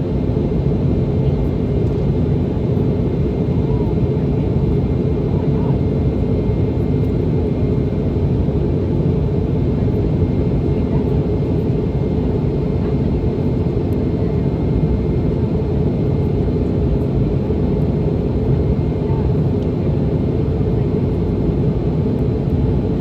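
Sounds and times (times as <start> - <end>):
airplane cabin engine rush: 0.0 - 23.0.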